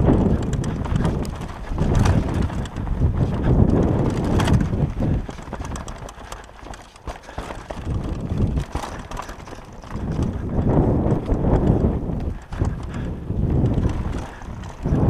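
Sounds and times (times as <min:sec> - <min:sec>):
mountain bike rattling: 0:00.0 - 0:15.0
tyres crunching on loose stones: 0:00.0 - 0:15.0
wind rumbling on microphone: 0:00.0 - 0:15.0.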